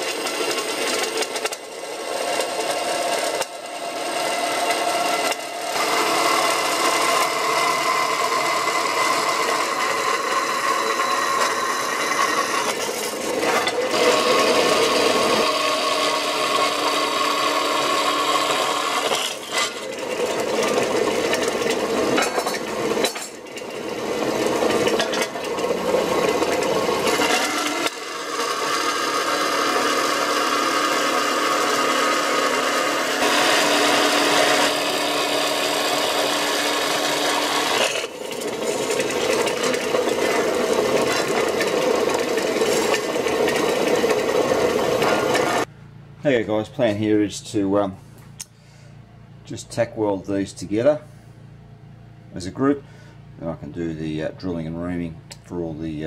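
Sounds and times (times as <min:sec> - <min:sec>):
power tool cutting metal: 0:00.0 - 0:45.7.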